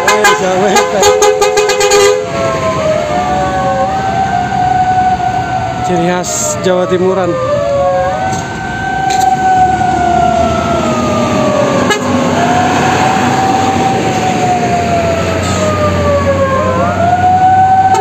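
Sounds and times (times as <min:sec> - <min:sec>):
bus engines running: 0:00.0 - 0:18.0
vehicle siren wailing: 0:00.0 - 0:18.0.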